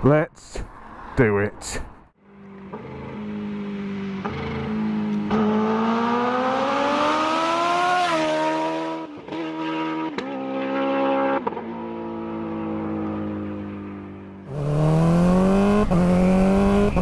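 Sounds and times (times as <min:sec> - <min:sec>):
motorcycle engine accelerating: 0:02.2 - 0:17.0.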